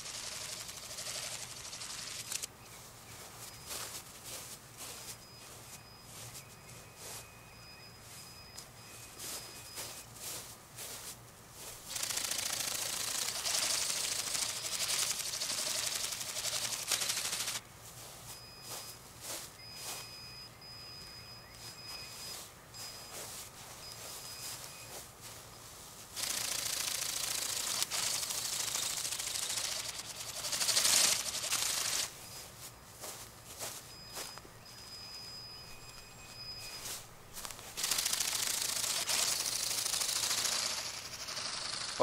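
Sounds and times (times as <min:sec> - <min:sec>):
flapping-wing drone buzzing: 0:00.0 - 0:42.0.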